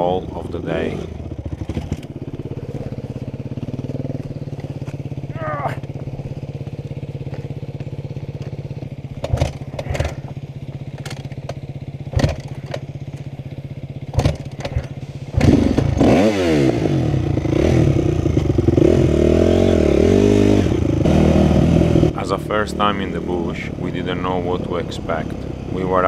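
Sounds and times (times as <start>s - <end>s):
dirt bike engine idling: 0.0s - 26.0s
dirt bike engine revving: 0.0s - 26.0s
engine knocks and clatters: 0.0s - 26.0s.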